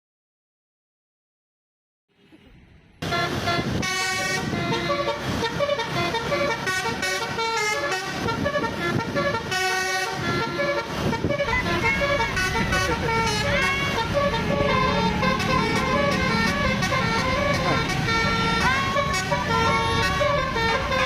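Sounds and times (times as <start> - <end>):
bus noise: 2.1 - 21.0
musical horn melody: 3.0 - 21.0.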